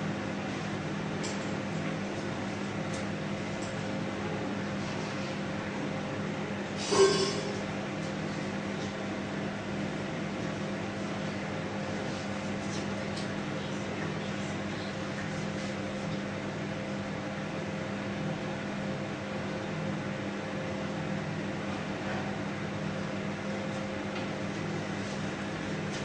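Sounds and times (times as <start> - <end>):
microwave oven humming: 0.0 - 26.0.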